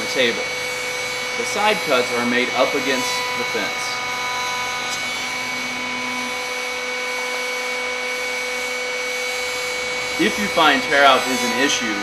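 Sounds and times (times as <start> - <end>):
router whining: 0.0 - 12.0.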